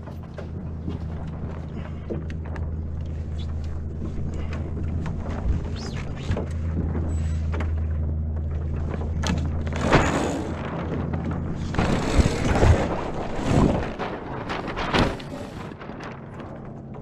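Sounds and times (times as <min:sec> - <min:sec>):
wind noise: 0:00.0 - 0:07.4, 0:08.7 - 0:17.0
water sloshing: 0:00.0 - 0:16.6
steady low drone: 0:00.0 - 0:17.0
thumps and knocks on boat: 0:00.0 - 0:17.0.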